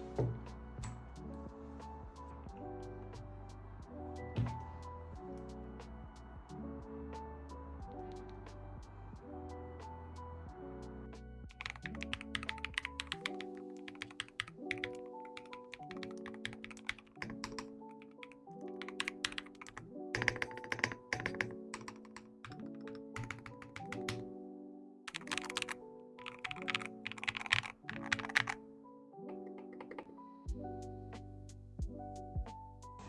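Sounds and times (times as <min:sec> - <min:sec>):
background music: 0:00.0 - 0:33.0.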